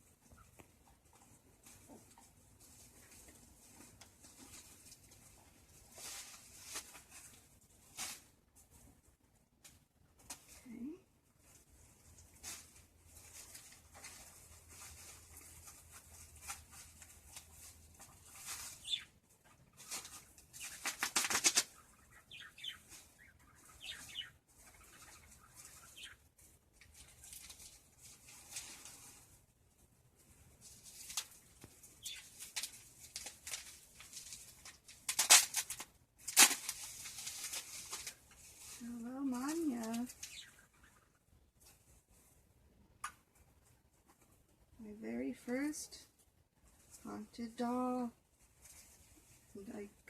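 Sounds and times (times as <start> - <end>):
wrapping rustling and crinkling: 0.2 - 9.1, 10.2 - 42.3.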